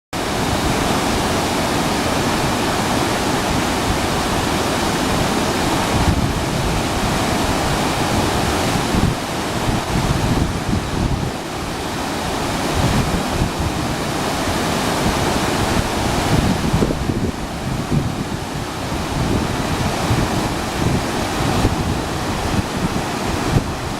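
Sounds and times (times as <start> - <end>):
river floodwater rushing: 0.2 - 23.9
wind buffeting microphone: 0.2 - 23.9.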